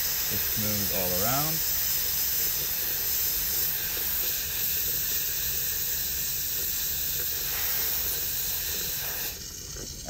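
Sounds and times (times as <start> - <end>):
dental handpiece hissing: 0.0 - 10.0.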